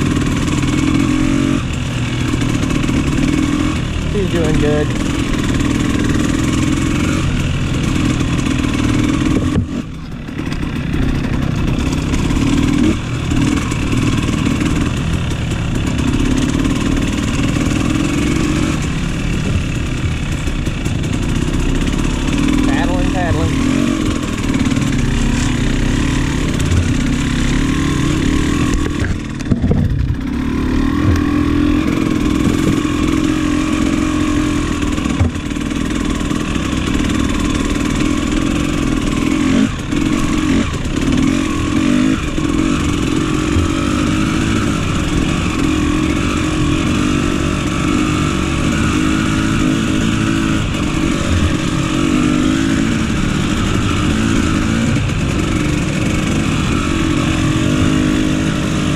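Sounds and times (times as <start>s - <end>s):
dirt bike engine running: 0.0s - 58.9s.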